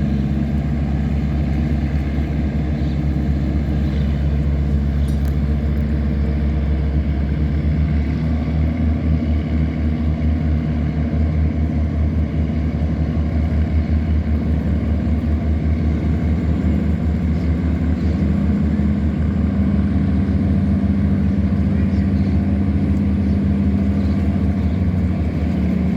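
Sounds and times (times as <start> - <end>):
diesel engine drone: 0.0 - 25.9.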